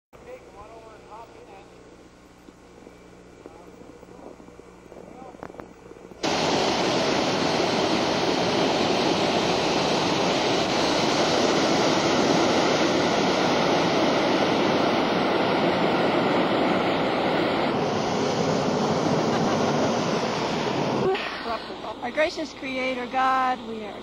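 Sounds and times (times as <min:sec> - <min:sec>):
propane burner blast: 0:00.2 - 0:24.0.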